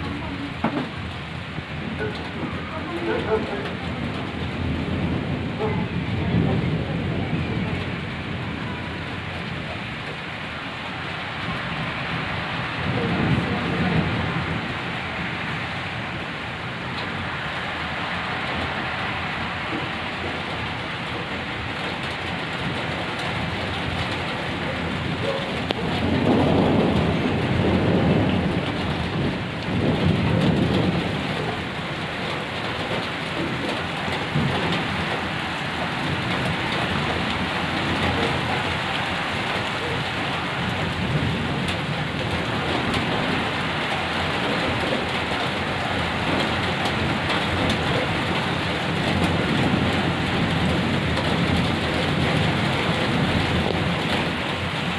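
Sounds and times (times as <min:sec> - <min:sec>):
low rumble of thunder: 0:00.0 - 0:54.9
steady rain falling: 0:00.0 - 0:54.9.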